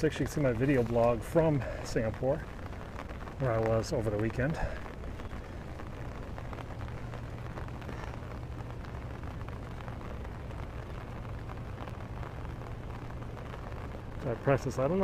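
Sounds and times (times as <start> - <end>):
rain pattering on an umbrella: 0.0 - 15.0
steady low rumble: 0.0 - 15.0.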